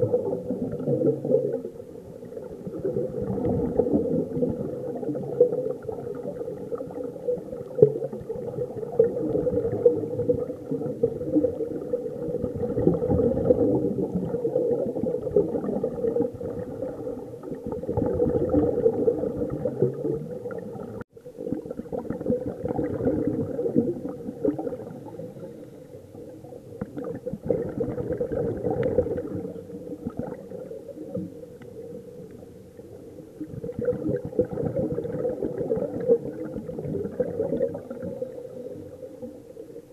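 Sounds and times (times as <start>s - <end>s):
underwater bubbling: 0.0s - 39.9s.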